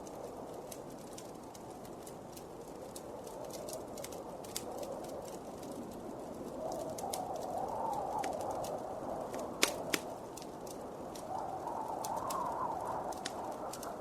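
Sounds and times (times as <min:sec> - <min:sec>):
blizzard wind: 0:00.0 - 0:14.0
wood fire crackling: 0:00.0 - 0:14.0.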